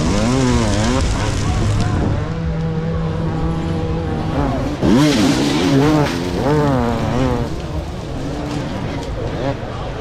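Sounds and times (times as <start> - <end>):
motocross motorcycle engines revving: 0.0 - 10.0
motorcycle passing close: 0.0 - 10.0.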